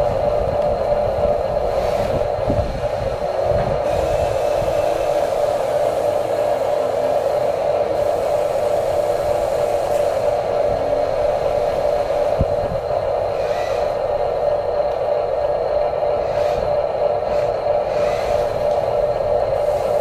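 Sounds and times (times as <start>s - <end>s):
electric motors whirring: 0.0s - 20.0s.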